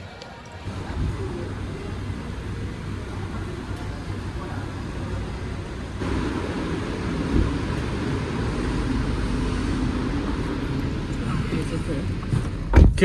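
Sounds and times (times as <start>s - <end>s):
car engine and tyre rumble: 0.6s - 13.0s.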